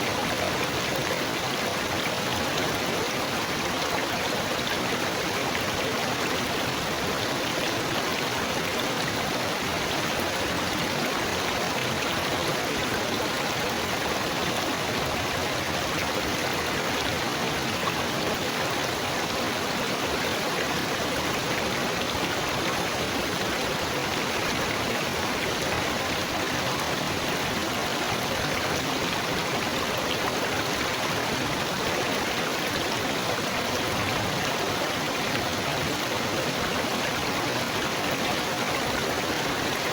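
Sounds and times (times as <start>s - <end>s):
babbling stream water: 0.0s - 39.9s.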